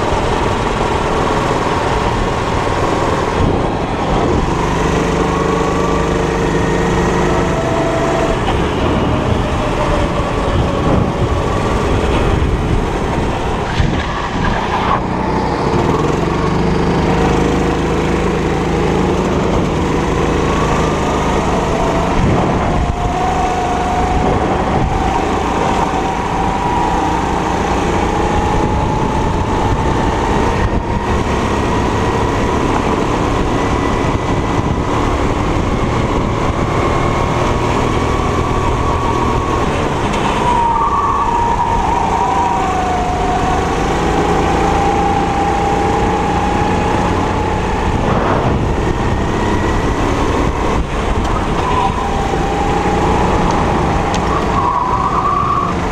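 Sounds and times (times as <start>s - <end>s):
kart engine running hard: 0.0s - 55.9s.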